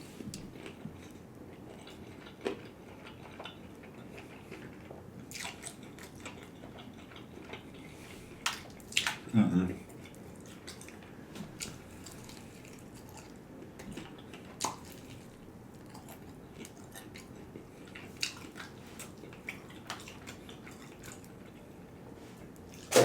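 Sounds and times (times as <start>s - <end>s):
chewing with wet mouth clicks: 0.3s - 9.3s, 9.9s - 21.9s.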